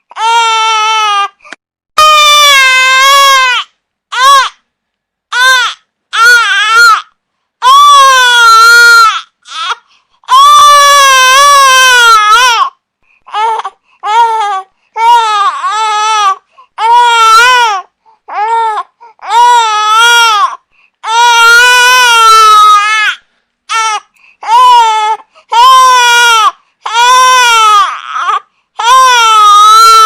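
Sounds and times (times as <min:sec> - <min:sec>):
infant crying: 0:00.1 - 0:01.4, 0:02.0 - 0:04.6, 0:05.3 - 0:30.0.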